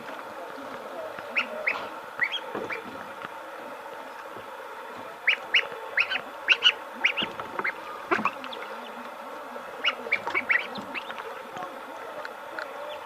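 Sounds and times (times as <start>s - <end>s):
ducklings and chicks peeping: 1.2s - 3.2s, 4.0s - 13.0s.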